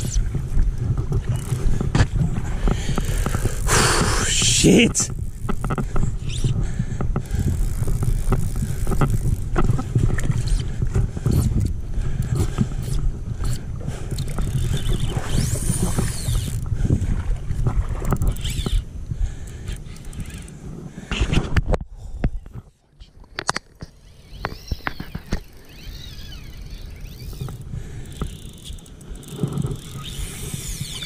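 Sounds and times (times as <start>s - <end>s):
fishing reel spinning: 0.0s - 0.4s, 1.2s - 16.7s, 18.0s - 20.6s, 23.6s - 31.0s.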